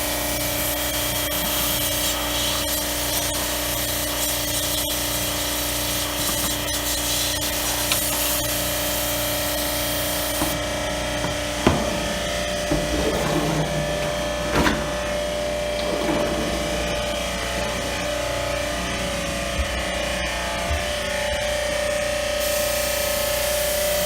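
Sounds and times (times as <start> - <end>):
pump motor humming: 0.0 - 24.0.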